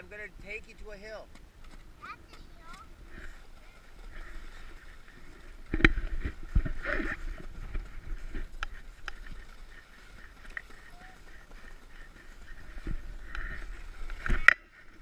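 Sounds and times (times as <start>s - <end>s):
footsteps crunching in snow: 1.2s - 15.0s
plastic sled scraping over snow: 1.6s - 15.0s.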